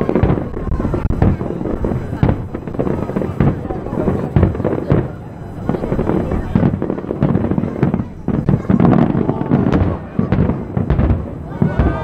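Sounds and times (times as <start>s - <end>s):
deep fireworks booms: 0.0s - 12.0s
fireworks bangs: 0.0s - 12.0s.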